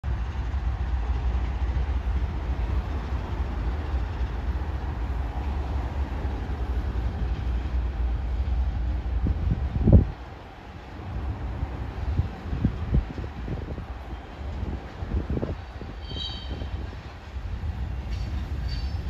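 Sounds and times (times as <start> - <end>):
diesel locomotives rumbling: 0.0 - 19.0
freight cars rolling on rails: 0.0 - 19.0.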